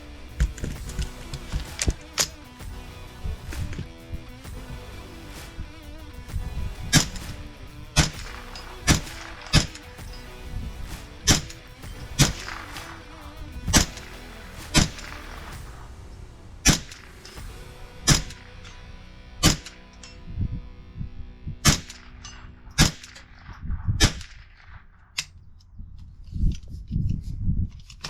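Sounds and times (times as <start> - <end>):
gunshots: 0.0 - 20.2, 21.6 - 25.2
background music: 0.0 - 24.6.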